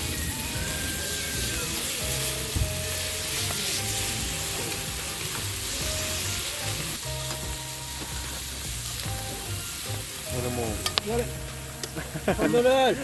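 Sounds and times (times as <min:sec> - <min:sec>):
food sizzling: 0:00.0 - 0:13.0
quiet background music: 0:00.0 - 0:13.0.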